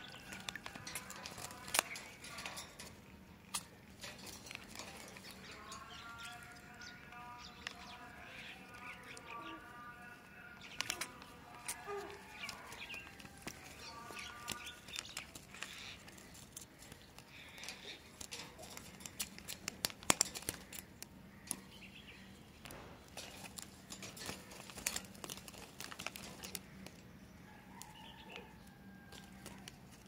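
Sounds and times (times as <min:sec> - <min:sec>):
birds scrabbling at dish and cage: 0:00.0 - 0:30.0.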